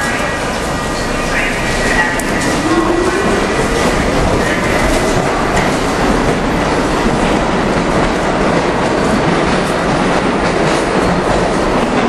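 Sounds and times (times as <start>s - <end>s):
subway train rumble and rattle: 0.0s - 12.0s.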